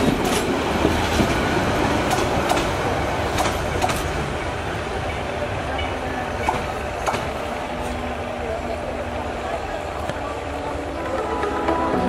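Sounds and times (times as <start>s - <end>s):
train coaches rumbling past: 0.0s - 12.0s.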